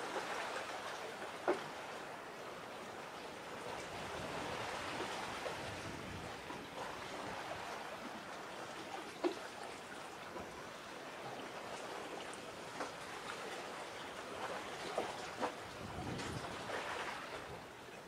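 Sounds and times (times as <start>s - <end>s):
small waves lapping at shore: 0.0s - 18.0s.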